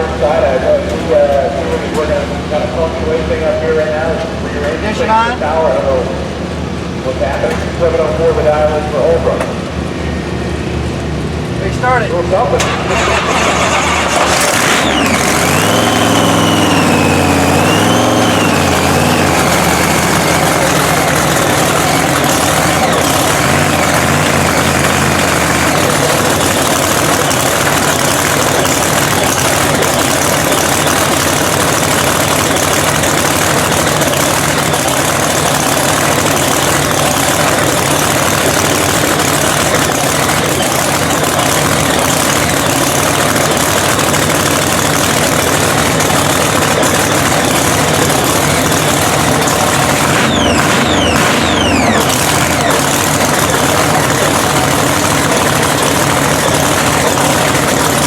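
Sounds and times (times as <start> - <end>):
high supercharger whine: 0.0 - 58.0
loud engine idling: 0.0 - 58.0.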